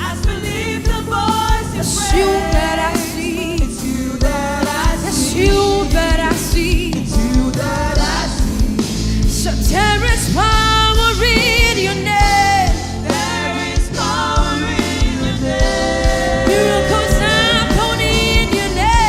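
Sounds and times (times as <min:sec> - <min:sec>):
band with bass and drums: 0:00.0 - 0:19.0
voices singing: 0:00.0 - 0:19.0.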